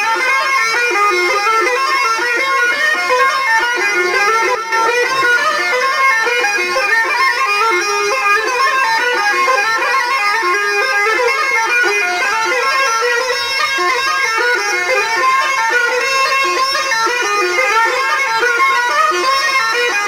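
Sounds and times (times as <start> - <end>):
folk music on double-reed pipe: 0.0 - 20.0.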